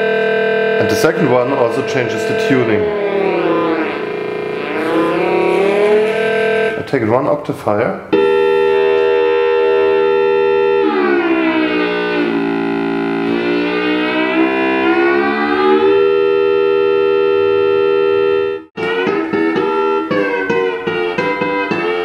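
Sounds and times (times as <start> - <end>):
sustained synthesizer note: 0.0 - 6.9, 8.2 - 22.0.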